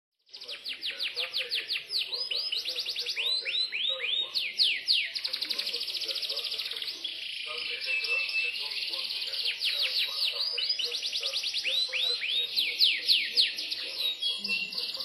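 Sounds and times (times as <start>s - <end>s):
canary singing: 0.3s - 15.0s.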